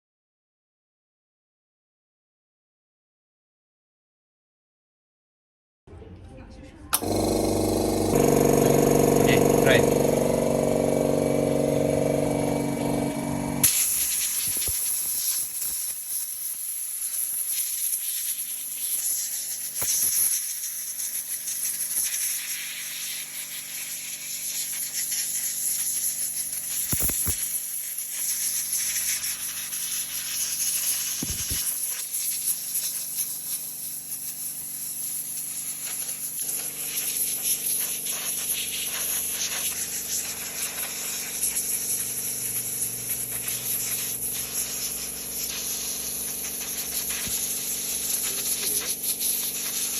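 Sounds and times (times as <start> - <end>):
compressed air hissing from nozzle: 7.0 - 49.9.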